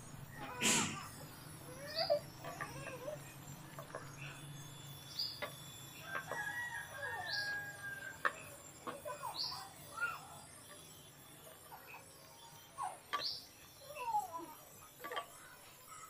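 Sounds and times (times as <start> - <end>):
birds calling: 0.0 - 14.4.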